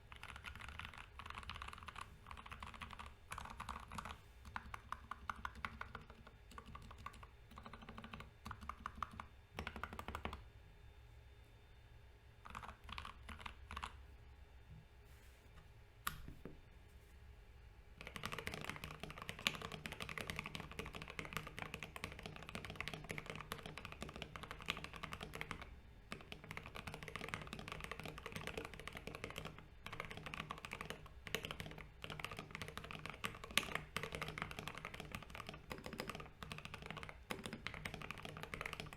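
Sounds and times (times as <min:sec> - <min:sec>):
mechanical keyboard typing: 0:00.1 - 0:10.4, 0:12.4 - 0:14.0, 0:18.0 - 0:38.9.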